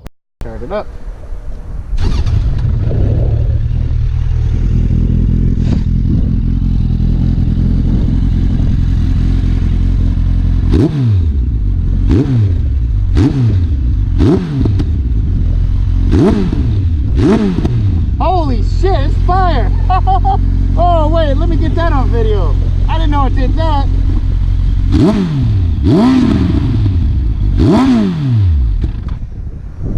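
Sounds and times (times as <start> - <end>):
motorcycle throttle blips: 0.9 - 29.3
motorcycle engine idling: 2.6 - 27.8.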